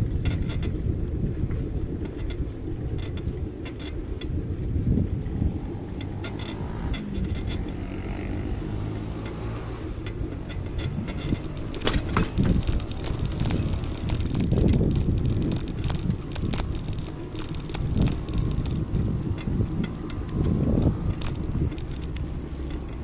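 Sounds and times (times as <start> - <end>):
clicks and rattles: 0.0 - 0.9, 5.2 - 23.0
wind rumbling on microphone: 0.0 - 23.0.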